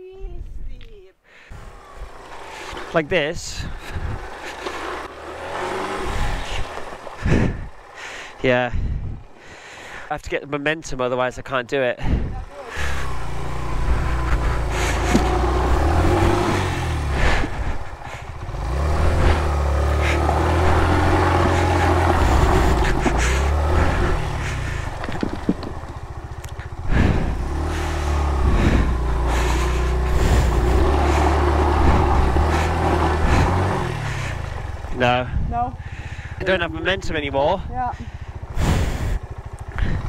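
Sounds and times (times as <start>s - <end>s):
motorcycle engine revving under load: 1.5s - 10.1s, 12.2s - 40.0s.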